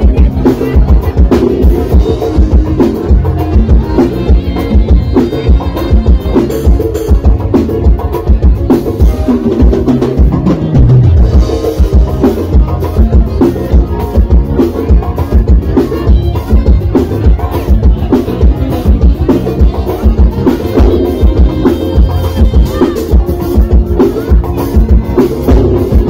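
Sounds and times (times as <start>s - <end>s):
accordion: 0.0s - 26.0s
bass guitar: 0.0s - 26.0s
drums: 0.0s - 26.0s
electric guitar: 0.0s - 26.0s.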